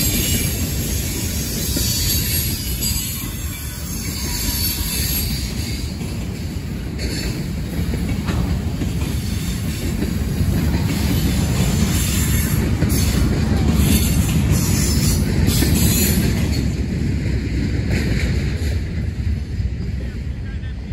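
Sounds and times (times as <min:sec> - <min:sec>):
train wheels rumbling and rattling: 0:00.0 - 0:20.9.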